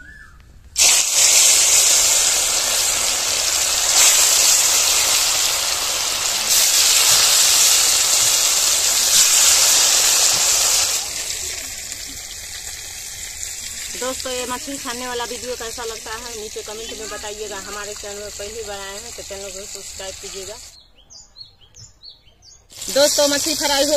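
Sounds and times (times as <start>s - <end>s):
fish sizzling in hot oil: 0.8s - 20.7s, 22.7s - 23.9s.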